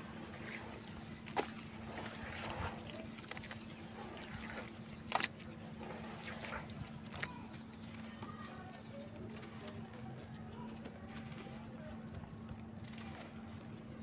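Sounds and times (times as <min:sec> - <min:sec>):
hands squelching wet paste: 0:00.0 - 0:14.0.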